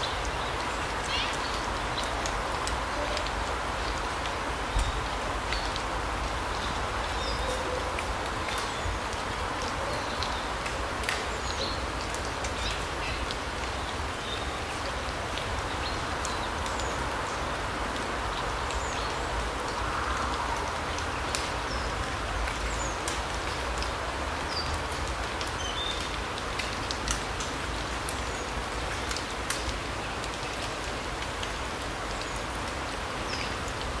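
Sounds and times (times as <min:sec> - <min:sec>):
light ticks of drips: 0:00.0 - 0:34.0.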